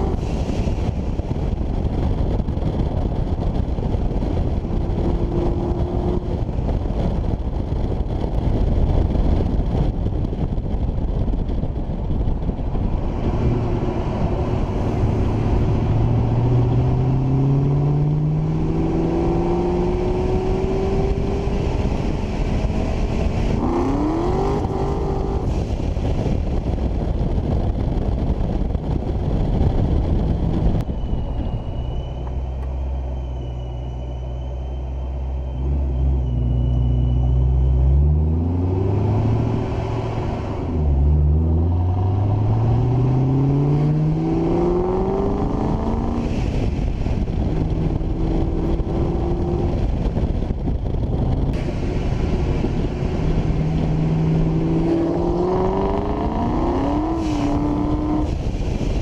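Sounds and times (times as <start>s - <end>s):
car engine accelerating: 0.0s - 9.8s, 11.4s - 26.8s, 29.8s - 59.0s
wind rushing over camera: 0.0s - 59.0s.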